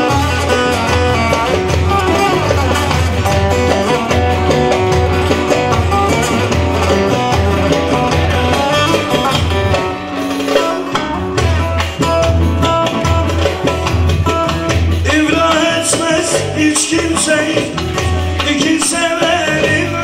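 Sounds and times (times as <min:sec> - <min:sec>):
pulsing bass: 0:00.0 - 0:10.2, 0:10.8 - 0:18.6
plucked long-necked lute: 0:00.0 - 0:20.0.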